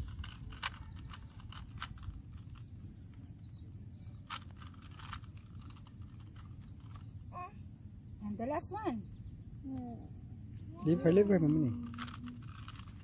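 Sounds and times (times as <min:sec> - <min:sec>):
faint outdoor rumble: 0:00.0 - 0:13.0
high-pitched insect drone: 0:00.0 - 0:13.0.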